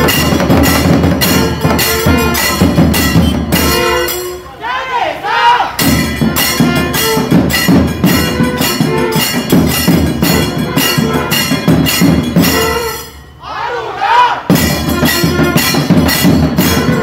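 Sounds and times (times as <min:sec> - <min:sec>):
barrel drums: 0:00.0 - 0:04.5, 0:05.7 - 0:13.2, 0:14.5 - 0:17.0
hand cymbals clashing: 0:00.0 - 0:04.6, 0:05.8 - 0:13.4, 0:14.5 - 0:17.0
wind instrument notes: 0:00.0 - 0:17.0.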